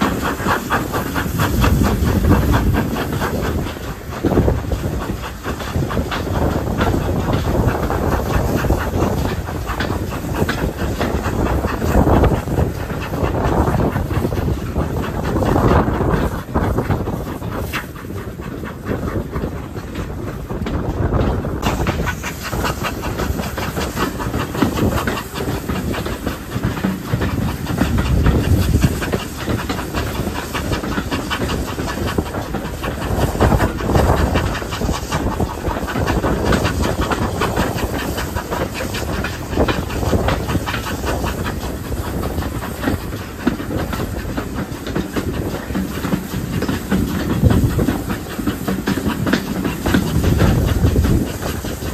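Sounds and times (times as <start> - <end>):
locomotive wheels clattering on rails: 0.0 - 51.9
steam hissing: 0.0 - 51.9.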